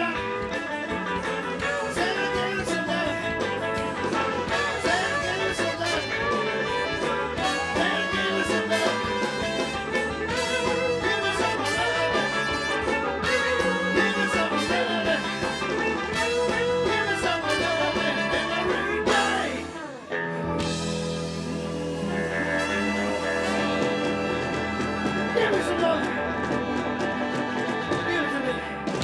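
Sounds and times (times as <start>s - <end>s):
live band with horns: 0.0s - 29.0s.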